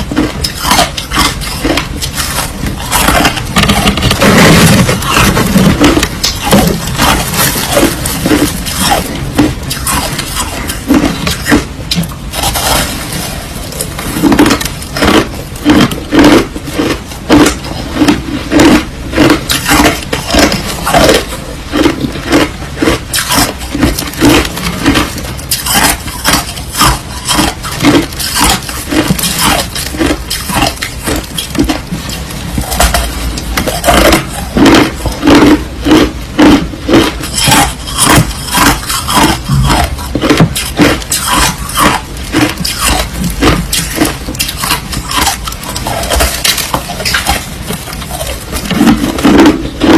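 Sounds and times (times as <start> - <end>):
crunching ice being chewed: 0.0 - 49.9.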